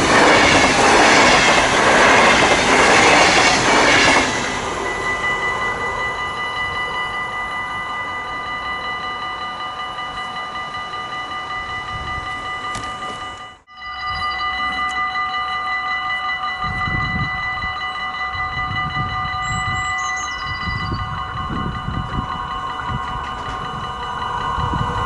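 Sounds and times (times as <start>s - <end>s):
level crossing warning bells: 0.0s - 25.0s.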